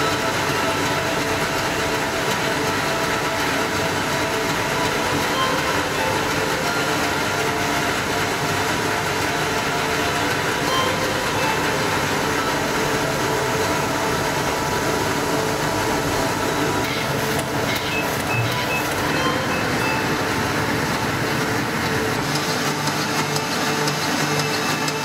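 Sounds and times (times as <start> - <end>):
printing press clatter and hum: 0.0 - 25.0.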